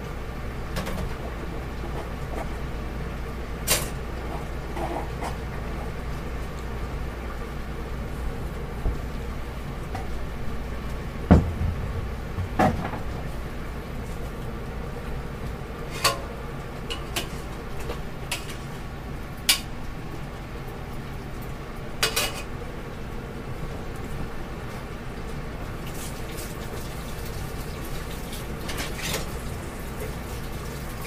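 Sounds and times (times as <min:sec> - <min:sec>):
steady low hum: 0:00.0 - 0:25.8.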